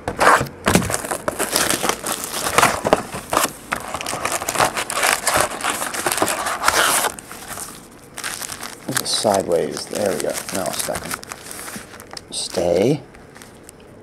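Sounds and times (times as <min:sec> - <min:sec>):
plastic wrapping crinkling: 0:00.2 - 0:13.8.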